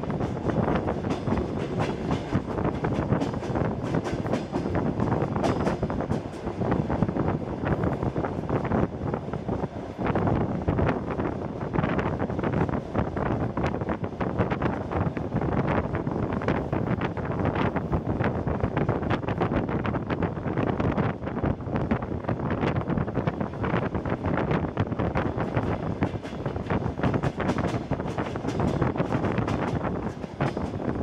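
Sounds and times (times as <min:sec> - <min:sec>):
train running noise: 0:00.0 - 0:31.0
wind rushing: 0:00.0 - 0:31.0.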